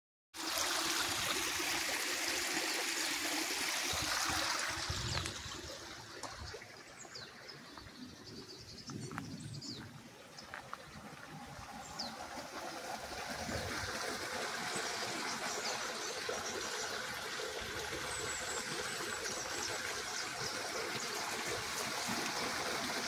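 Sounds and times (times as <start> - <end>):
stream trickling over stones: 0.4 - 23.0.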